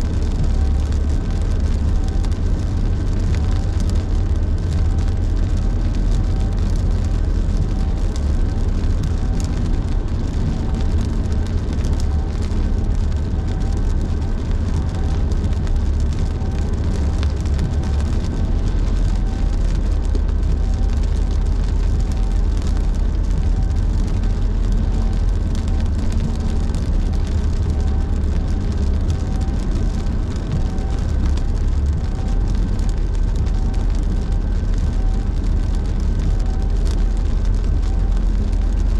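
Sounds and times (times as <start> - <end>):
road rumble inside car: 0.0 - 38.9
rhythmic windshield wiper sweep: 0.1 - 38.9.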